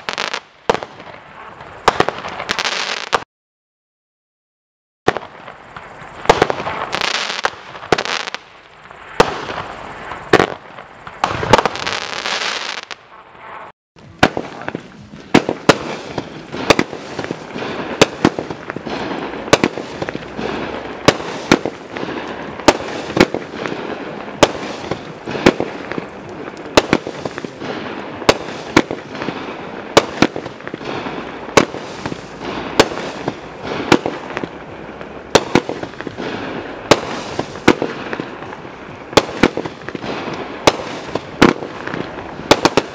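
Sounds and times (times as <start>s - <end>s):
fireworks crackling bursts: 0.0s - 3.3s, 5.1s - 42.9s
fireworks sharp shots: 0.0s - 3.3s, 5.1s - 42.9s.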